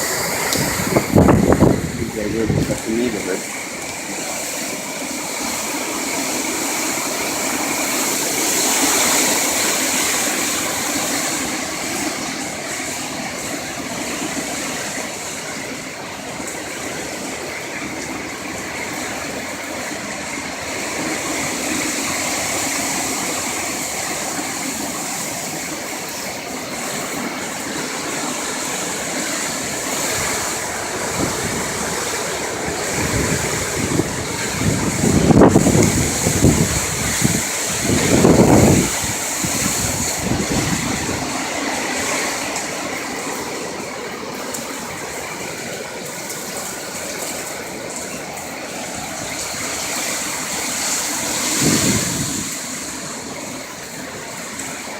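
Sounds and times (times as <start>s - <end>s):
strong wind and rain rushing: 0.0s - 54.9s.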